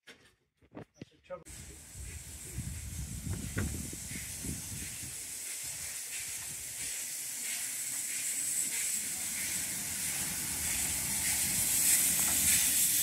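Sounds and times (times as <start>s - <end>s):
steam hissing: 1.5s - 13.0s.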